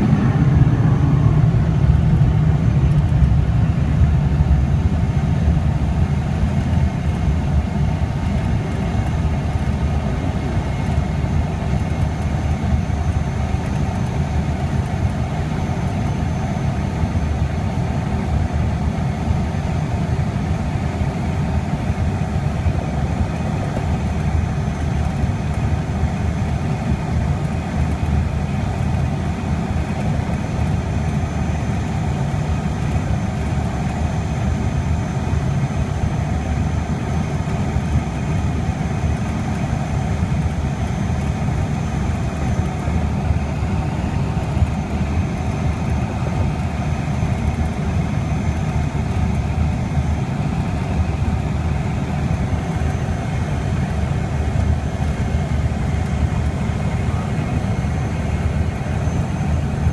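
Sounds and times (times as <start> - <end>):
propeller aircraft engine drone: 0.0 - 59.9.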